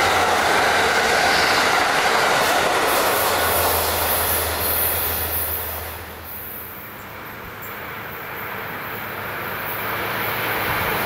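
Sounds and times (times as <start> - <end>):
train wheels rushing on rail: 0.0 - 11.0.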